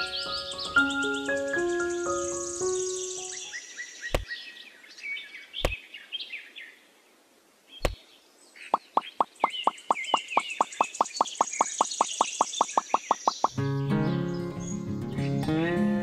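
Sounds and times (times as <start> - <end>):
birds chirping: 0.0 - 15.4.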